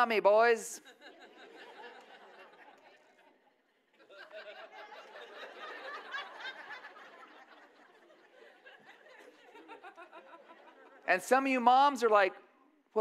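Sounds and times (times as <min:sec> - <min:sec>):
crowd laughing: 0:00.8 - 0:11.4.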